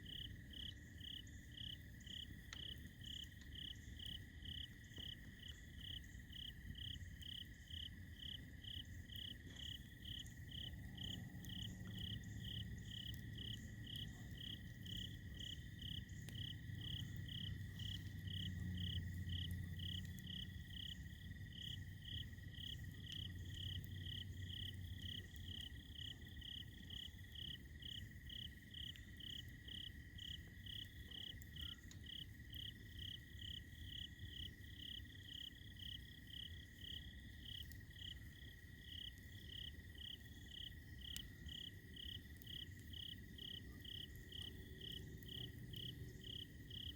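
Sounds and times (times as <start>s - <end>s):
crickets chirping: 0.0s - 46.9s
insects trilling: 0.0s - 46.9s.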